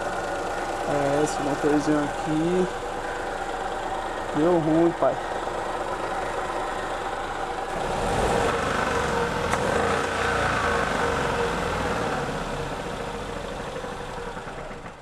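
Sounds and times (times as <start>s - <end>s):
engine knocking: 0.0s - 15.0s.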